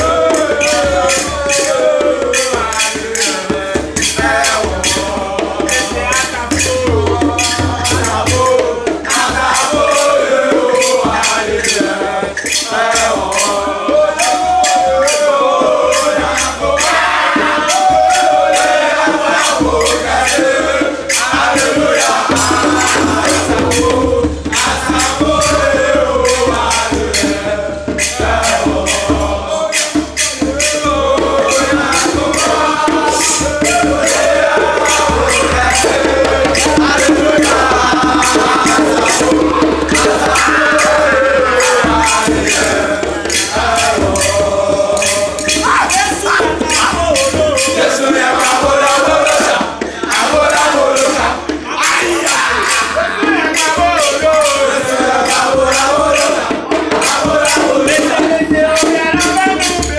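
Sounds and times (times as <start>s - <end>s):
hand drums: 0.0s - 59.9s
young voices singing a chant: 0.0s - 59.9s.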